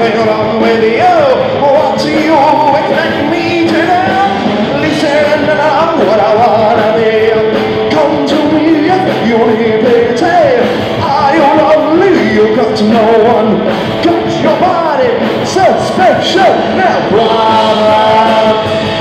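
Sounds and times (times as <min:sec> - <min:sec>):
bass guitar: 0:00.0 - 0:19.0
drums: 0:00.0 - 0:19.0
electric guitar: 0:00.0 - 0:19.0
man shouting and singing: 0:00.0 - 0:19.0.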